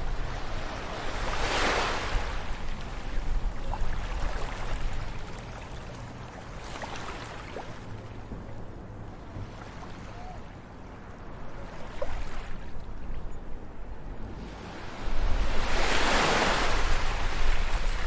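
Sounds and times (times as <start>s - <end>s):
ocean waves breaking on beach: 0.0s - 12.9s, 14.2s - 18.0s.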